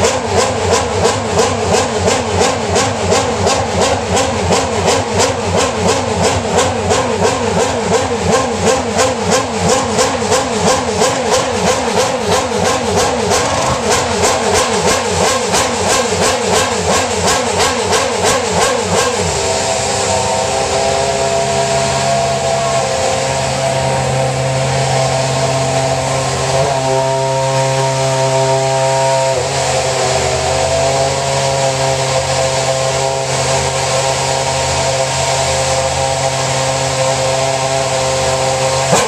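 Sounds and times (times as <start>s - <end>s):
race car engine idling: 0.0s - 39.0s.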